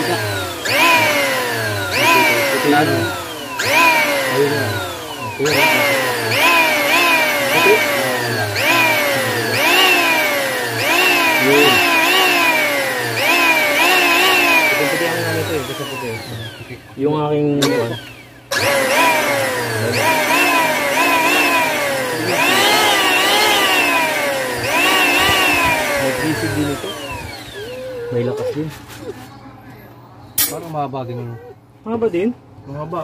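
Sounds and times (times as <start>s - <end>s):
electric planer motor revving: 0.0s - 17.0s, 17.6s - 28.7s.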